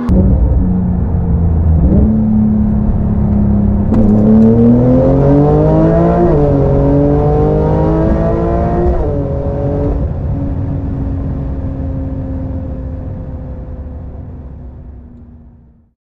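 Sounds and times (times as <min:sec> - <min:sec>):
sports car engine accelerating: 0:00.0 - 0:15.9.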